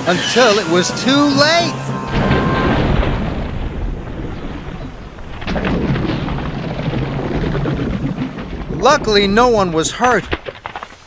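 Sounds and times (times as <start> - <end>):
crash with rumbling: 0.0 - 11.0.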